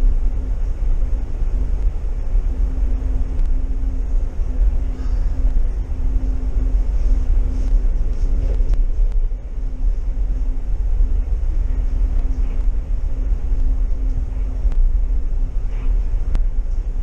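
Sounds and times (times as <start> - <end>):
constant hum: 0.0 - 17.0
train rumbling: 0.0 - 17.0.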